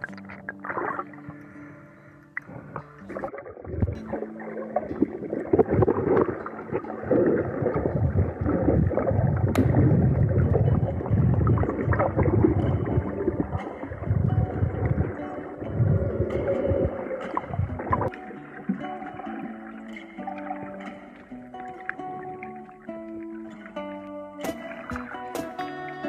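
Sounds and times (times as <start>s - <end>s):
water churning and bubbling underwater: 0.0s - 26.0s.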